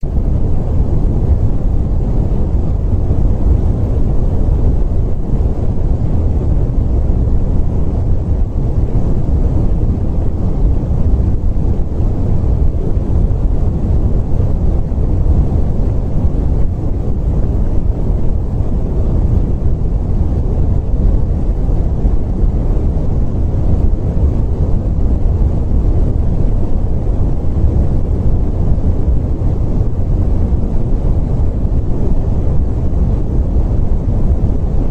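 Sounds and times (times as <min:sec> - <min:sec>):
deep rumbling noise: 0:00.0 - 0:34.9.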